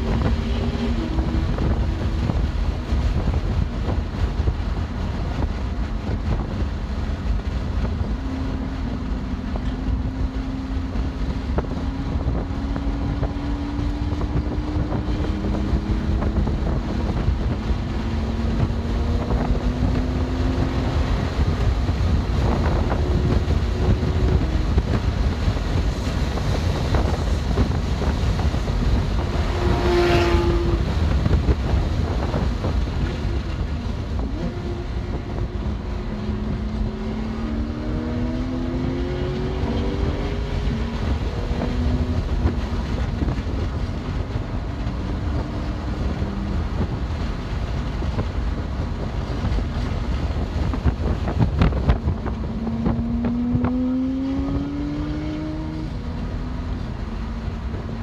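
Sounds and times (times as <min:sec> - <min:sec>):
car engine at speed: 0:00.0 - 0:58.0
wind and road noise: 0:00.0 - 0:58.0.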